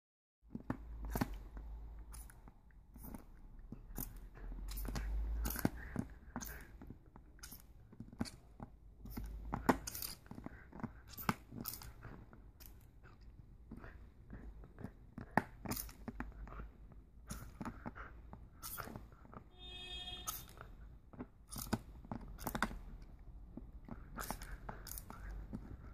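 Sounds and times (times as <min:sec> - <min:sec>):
puppy chewing on plastic: 0:00.5 - 0:25.9.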